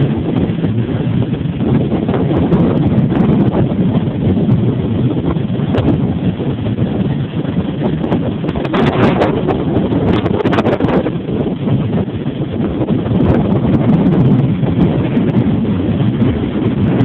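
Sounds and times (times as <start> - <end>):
big waves breaking: 0.0 - 17.0
wind buffeting microphone: 0.0 - 17.0.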